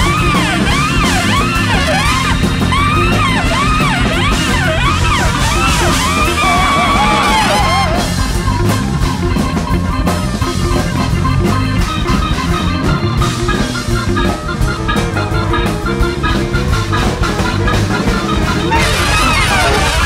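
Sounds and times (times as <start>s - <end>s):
drums: 0.0s - 20.0s
guitar: 0.0s - 20.0s
keyboard: 0.0s - 20.0s.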